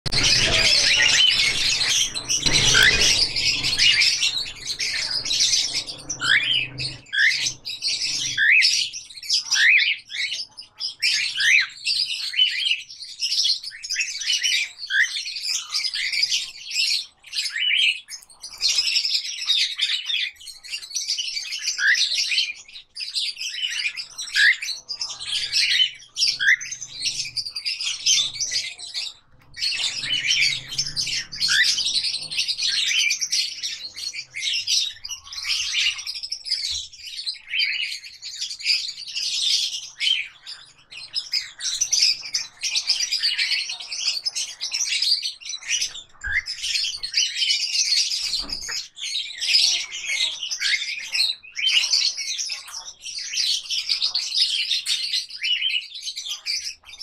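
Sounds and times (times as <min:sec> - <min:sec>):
parrots chirping: 0:00.0 - 0:12.8, 0:21.4 - 0:57.0.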